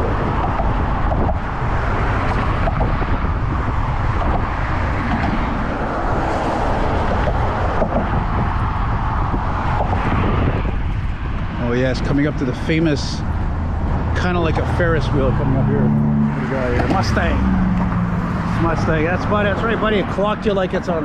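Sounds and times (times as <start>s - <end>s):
road traffic passing: 0.0s - 21.0s
wind rumbling on microphone: 0.0s - 21.0s.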